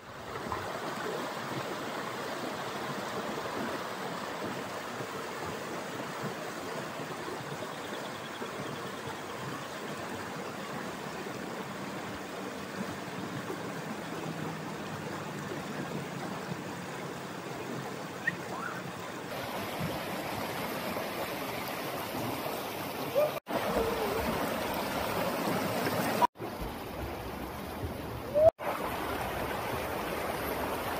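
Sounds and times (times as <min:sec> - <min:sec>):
flood water rushing over rocks: 0:00.0 - 0:30.9.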